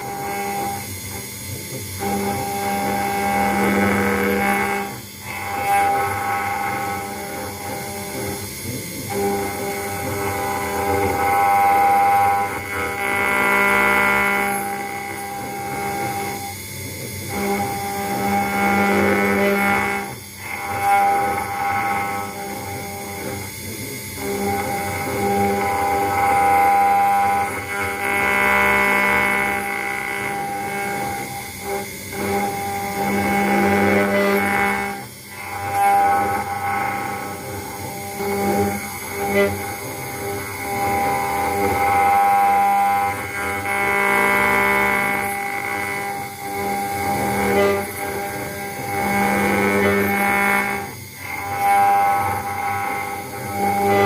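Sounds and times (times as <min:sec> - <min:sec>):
motor tones: 0:00.0 - 0:54.0
router spindle whine: 0:00.0 - 0:54.0.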